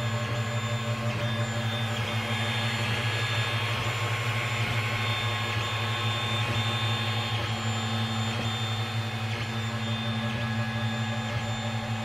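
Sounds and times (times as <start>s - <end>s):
stepper motor whine: 0.0s - 12.0s.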